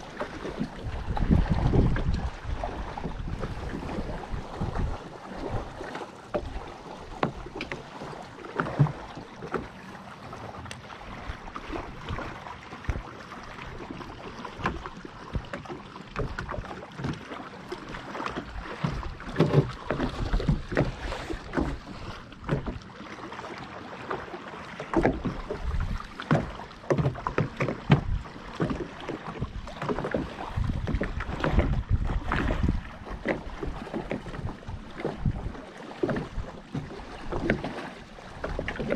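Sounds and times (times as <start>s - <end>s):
waves slapping against a boat hull: 0.0s - 38.9s
wind and water rushing: 0.0s - 38.9s.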